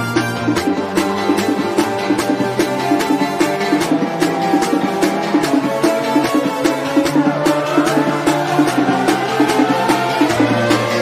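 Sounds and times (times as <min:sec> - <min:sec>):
music with percussive beat: 0:00.0 - 0:11.0.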